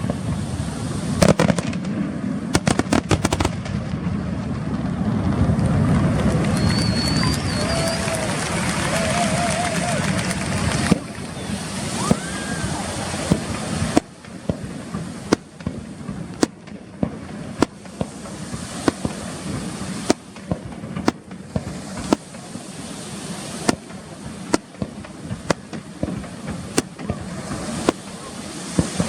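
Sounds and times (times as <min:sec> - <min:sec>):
steady background hiss: 0:00.0 - 0:05.0, 0:07.0 - 0:29.0
fireworks bangs: 0:00.0 - 0:29.0.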